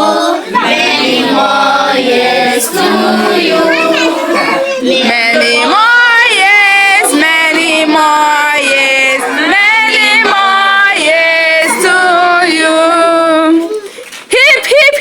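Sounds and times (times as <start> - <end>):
children and women singing: 0.0 - 13.7.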